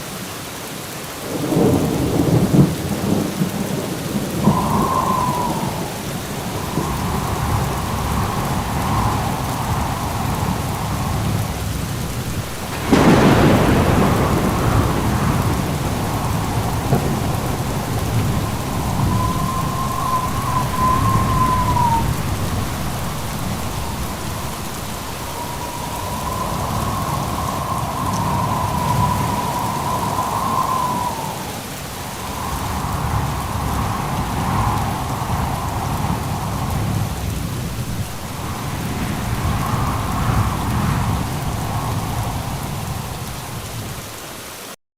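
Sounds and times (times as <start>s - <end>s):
steady rain: 0.0s - 44.8s
sharp thunderclap: 1.3s - 44.0s
low rumbling thunder: 1.3s - 44.2s.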